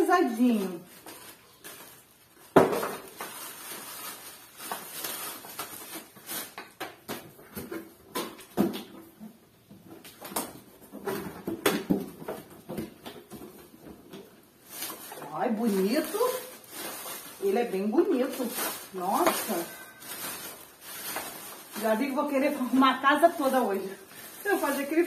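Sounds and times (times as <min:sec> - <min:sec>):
plastic wrapping rustling: 0:00.0 - 0:25.0.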